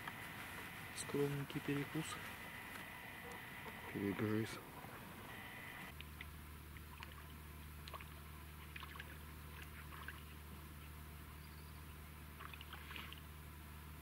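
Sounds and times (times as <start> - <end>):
water lapping: 0.0 - 10.9, 12.3 - 13.4
low steady hum: 0.0 - 14.0.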